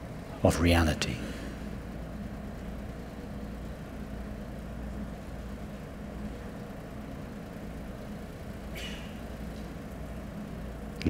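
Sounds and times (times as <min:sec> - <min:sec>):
low hall room tone hum: 0:00.0 - 0:11.0.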